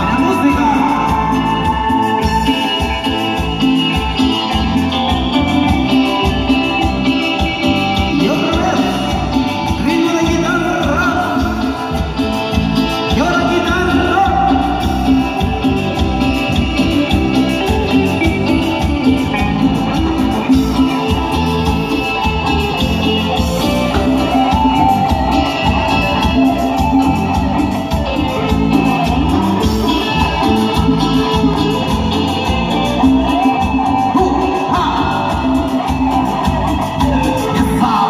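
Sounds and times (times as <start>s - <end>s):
bass guitar: 0.0s - 38.0s
electric guitar: 0.0s - 38.0s
latin dance band through speakers: 0.0s - 38.0s.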